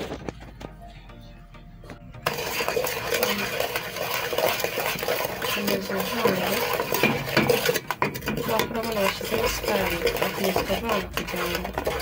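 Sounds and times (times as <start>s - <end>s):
wooden spoon stirring in metal pot: 2.2s - 12.0s.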